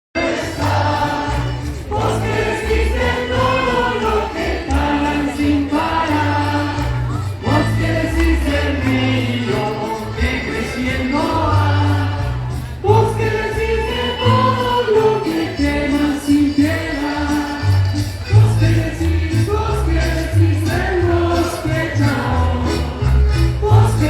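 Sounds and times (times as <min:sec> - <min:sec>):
mass choir singing: 0:00.2 - 0:24.0
low bass line: 0:00.5 - 0:24.0.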